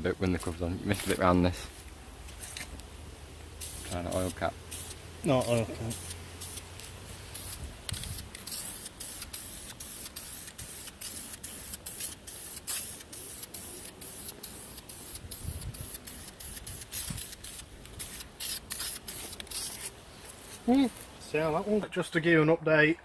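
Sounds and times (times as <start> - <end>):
spray can hissing: 0.4 - 21.0.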